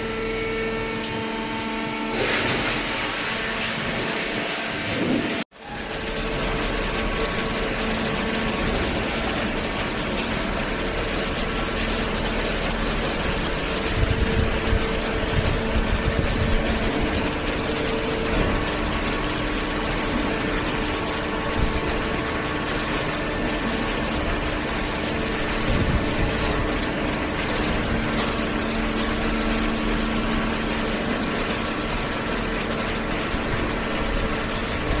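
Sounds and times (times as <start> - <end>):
baler machine humming: 0.0 - 35.0.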